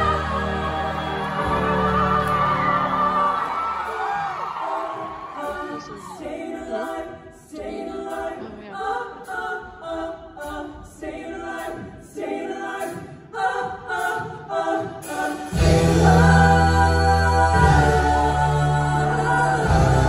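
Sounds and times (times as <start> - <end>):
women's choir singing: 0.0 - 20.0.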